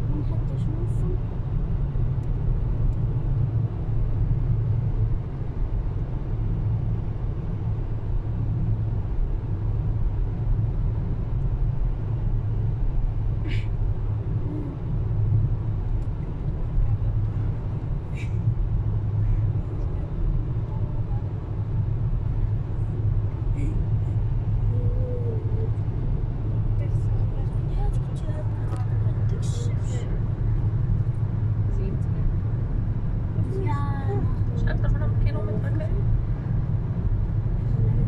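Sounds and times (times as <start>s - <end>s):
car cabin road rumble: 0.0s - 38.0s.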